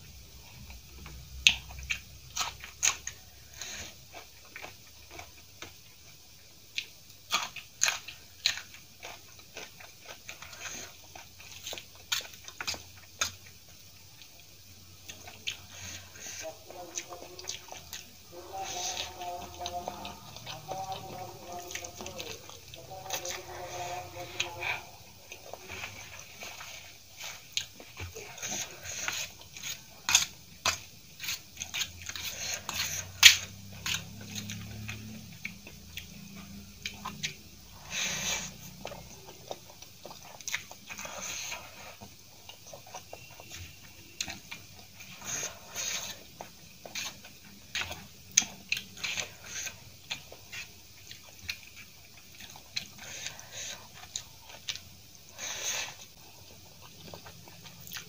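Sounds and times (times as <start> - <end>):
close-miked wet chewing: 0.0 - 58.0.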